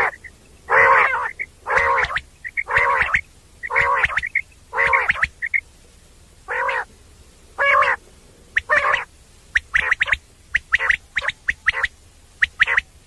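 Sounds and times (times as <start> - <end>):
quail calling: 0.0 - 5.7, 6.4 - 13.0.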